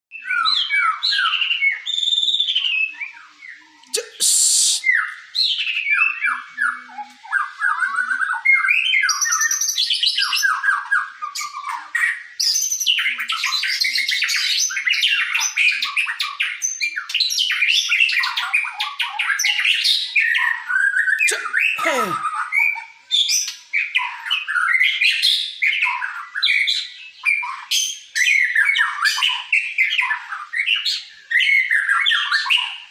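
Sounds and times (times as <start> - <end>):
bird singing whistled song: 0.1 - 21.8, 22.6 - 32.9.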